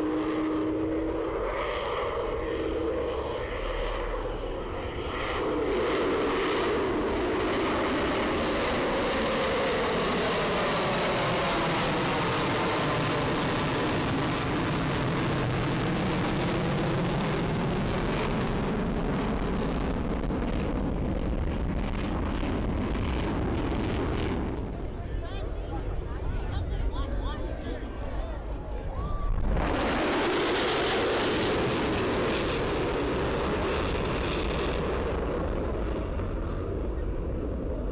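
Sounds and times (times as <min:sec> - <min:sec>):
loud jet engine noise: 0:00.0 - 0:37.9.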